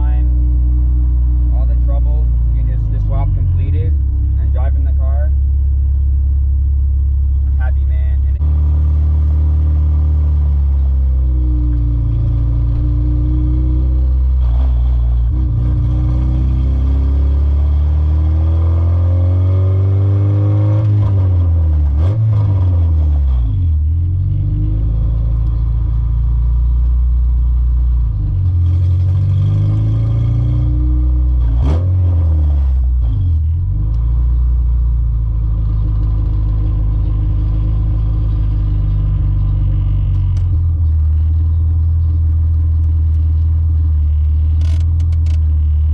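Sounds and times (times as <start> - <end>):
car engine: 0.0 - 45.9
road noise inside car: 0.0 - 45.9.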